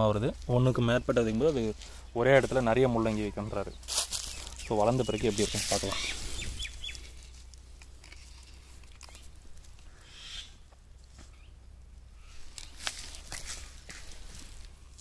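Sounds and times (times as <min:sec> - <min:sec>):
soft rustle: 0:00.2 - 0:10.0, 0:12.2 - 0:15.0.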